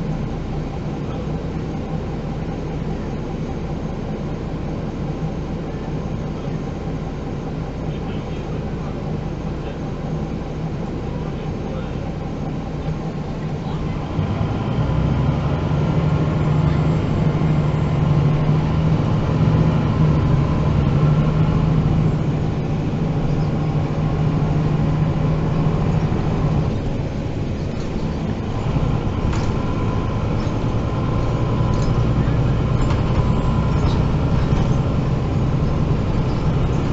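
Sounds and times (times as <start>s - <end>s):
bus diesel engine humming: 0.0s - 36.9s.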